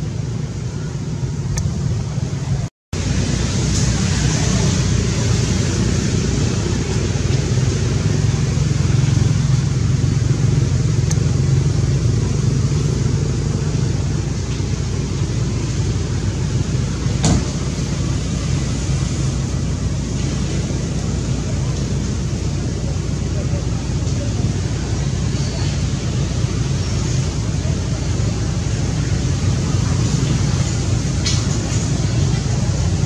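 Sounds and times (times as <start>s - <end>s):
outdoor rumble and hiss: 0.0s - 33.0s.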